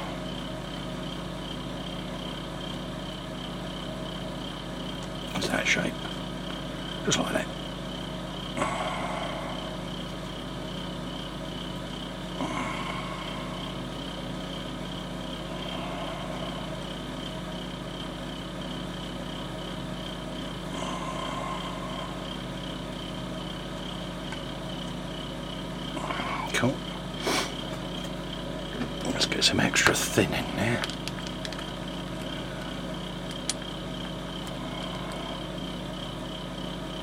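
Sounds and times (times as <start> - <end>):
room hum and hiss: 0.0 - 37.0.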